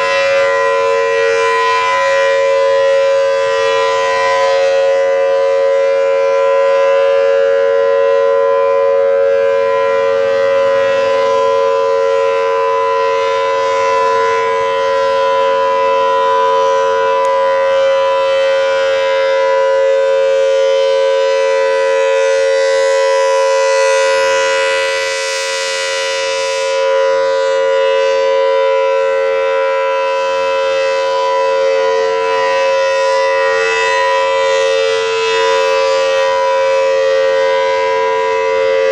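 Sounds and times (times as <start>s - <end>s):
high-pitched warning siren: 0.0s - 38.9s.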